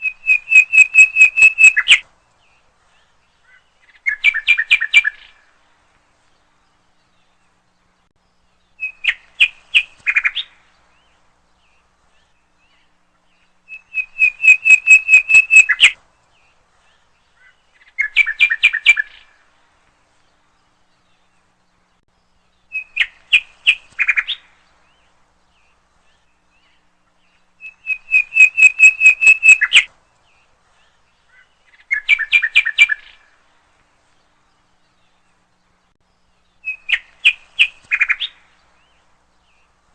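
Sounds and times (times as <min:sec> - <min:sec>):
bird chirping calls: 0:00.0 - 0:33.4, 0:34.0 - 0:39.9.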